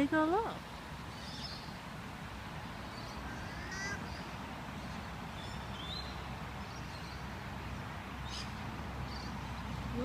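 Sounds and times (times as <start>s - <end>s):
traffic rumble on bridge: 0.0s - 10.0s.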